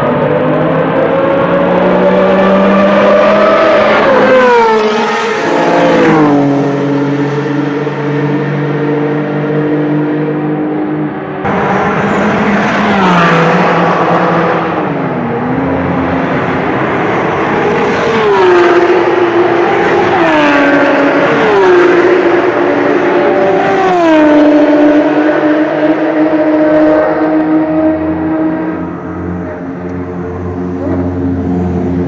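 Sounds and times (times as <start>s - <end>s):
racing cars passing at speed: 0.0s - 32.0s.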